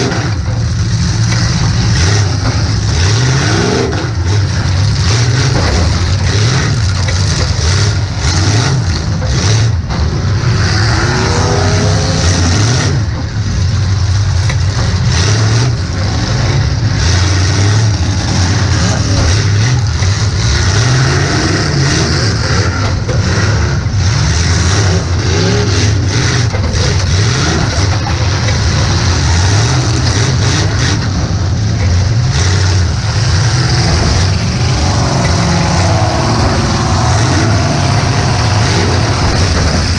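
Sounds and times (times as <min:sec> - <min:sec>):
car engine revving: 0:00.0 - 0:39.9
impact bangs and crunches: 0:00.0 - 0:39.9.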